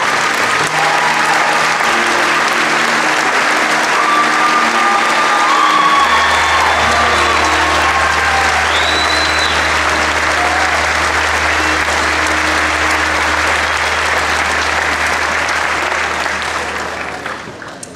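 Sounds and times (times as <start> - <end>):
audience applauding: 0.0 - 17.9.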